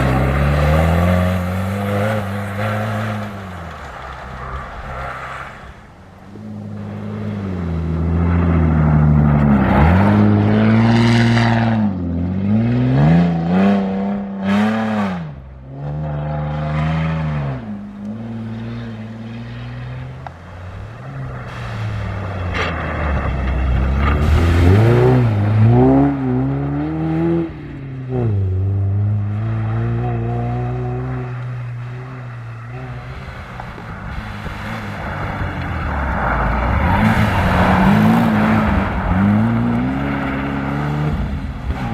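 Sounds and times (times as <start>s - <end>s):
vehicle engines revving: 0.0s - 41.9s.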